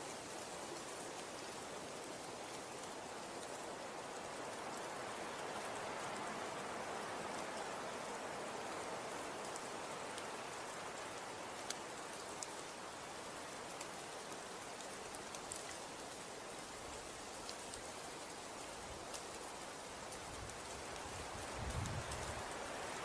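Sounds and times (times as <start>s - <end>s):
snow falling soft hiss: 0.0s - 23.0s.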